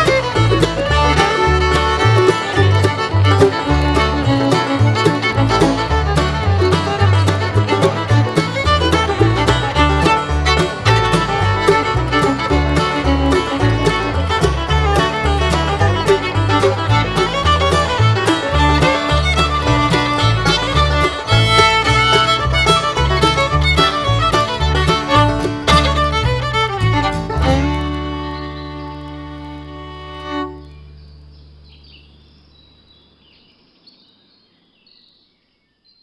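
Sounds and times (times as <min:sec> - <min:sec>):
bluegrass music: 0:00.0 - 0:31.7.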